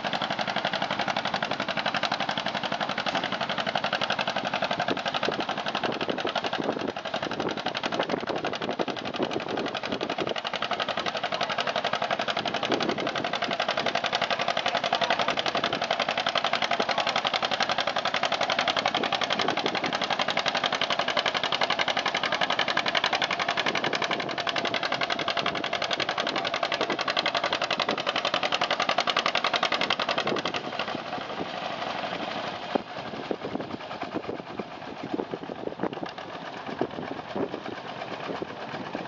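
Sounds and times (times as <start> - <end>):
tractor engine working under load: 0.0 - 39.0.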